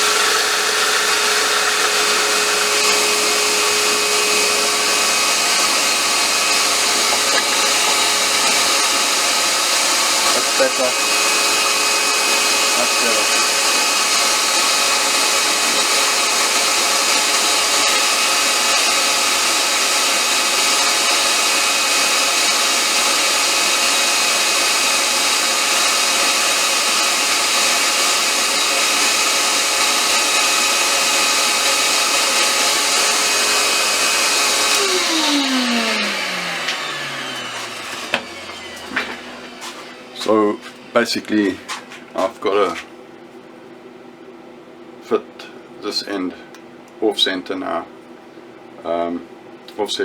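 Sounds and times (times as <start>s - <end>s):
lathe spinning down: 0.0s - 41.4s
lathe motor whine: 0.0s - 44.9s.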